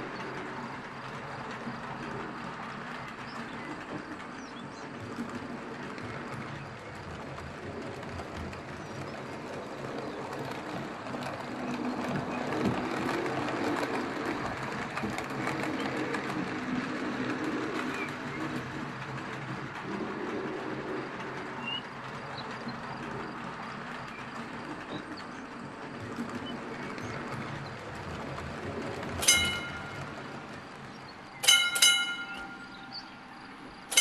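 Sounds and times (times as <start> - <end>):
model train wheels rattling: 0.0 - 34.0.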